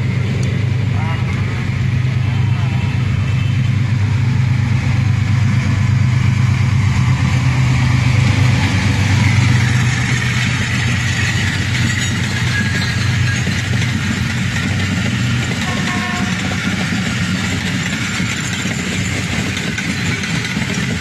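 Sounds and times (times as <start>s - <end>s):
diesel locomotive engine drone: 0.0s - 21.0s
train coaches rolling by: 0.0s - 21.0s.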